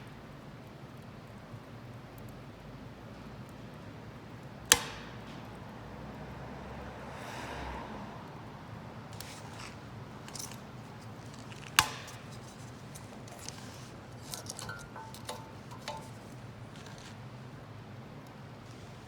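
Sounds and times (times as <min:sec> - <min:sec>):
wood fire crackling in stove: 0:00.0 - 0:19.0.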